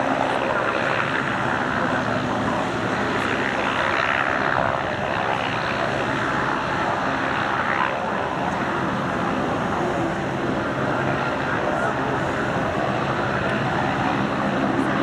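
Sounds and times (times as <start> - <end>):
propeller aircraft engines running: 0.0 - 15.0.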